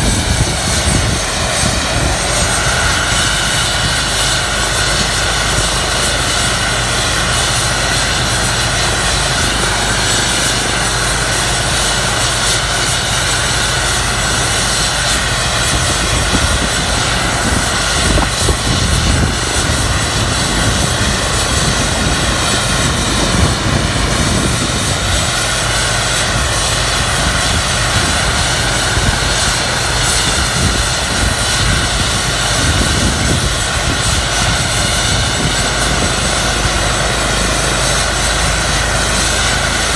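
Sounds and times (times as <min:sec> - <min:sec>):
helicopter engine whine: 0:00.0 - 0:39.9
helicopter rotor noise: 0:00.0 - 0:39.9.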